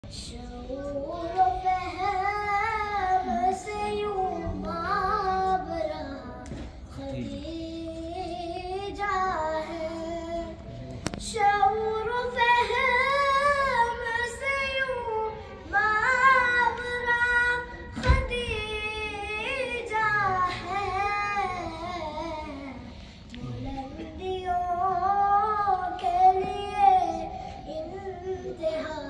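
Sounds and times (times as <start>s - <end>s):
boy singing into a microphone: 0.0s - 29.0s.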